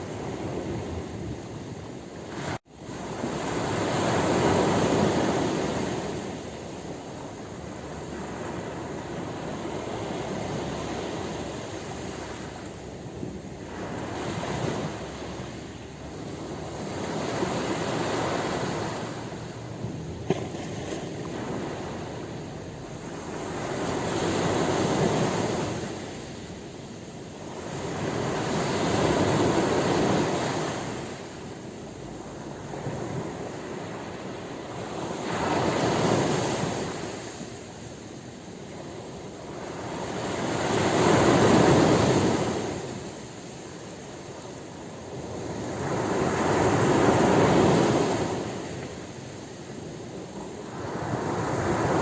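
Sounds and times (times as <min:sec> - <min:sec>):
ocean waves breaking on shore: 0:00.0 - 0:52.0.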